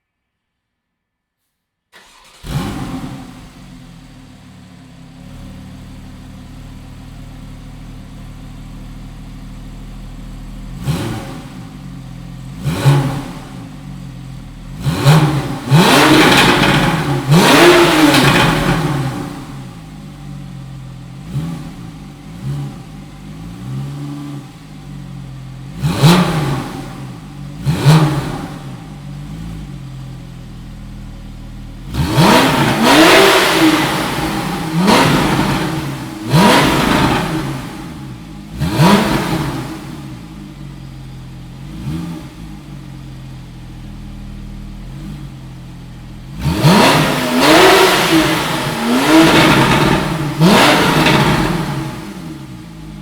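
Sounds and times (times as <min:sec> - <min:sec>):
car engine idling and revving: 0:02.0 - 0:53.0.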